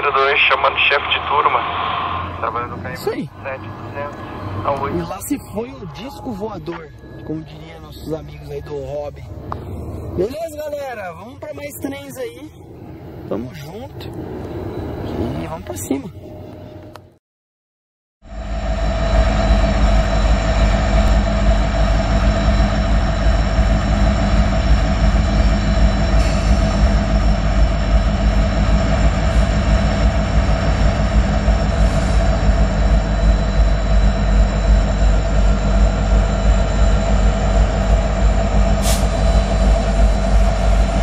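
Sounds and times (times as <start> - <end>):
high whining tones: 0.0 - 17.0, 18.3 - 41.0
locomotive engines rumbling: 0.0 - 17.1, 18.4 - 41.0.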